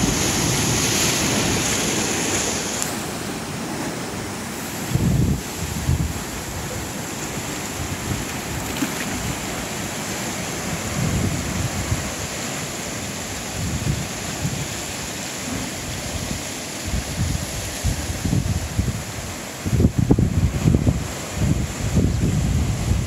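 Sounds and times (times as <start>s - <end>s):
surf breaking over rocks: 0.0s - 23.0s
wind buffeting microphone: 0.0s - 23.0s.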